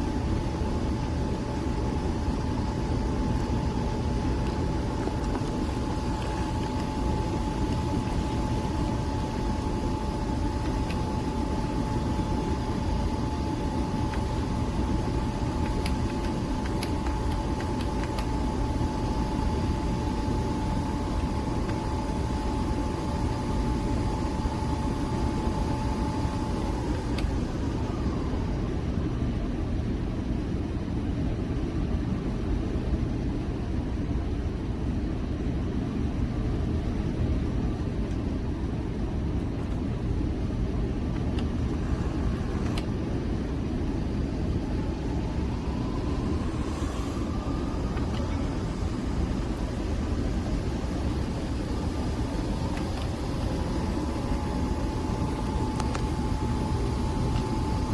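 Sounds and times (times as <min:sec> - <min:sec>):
coffee machine whirring hum: 0:00.0 - 0:57.9.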